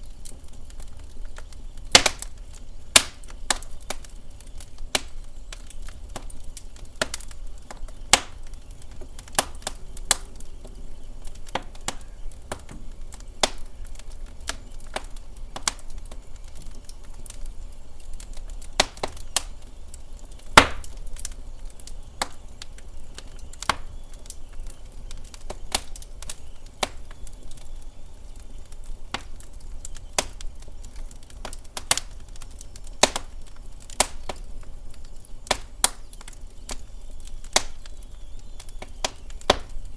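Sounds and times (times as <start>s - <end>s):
sharp pops and snaps: 0.0s - 39.9s
wood fire crackling: 0.0s - 39.9s.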